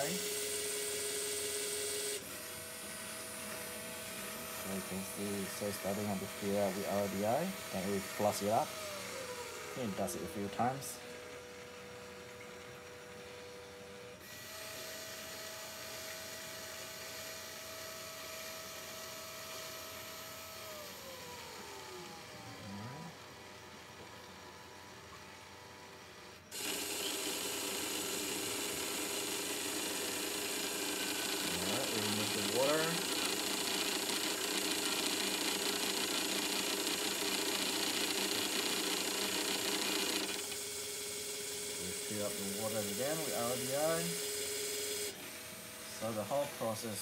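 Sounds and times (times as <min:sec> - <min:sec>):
small motor whining: 0:00.0 - 0:47.0.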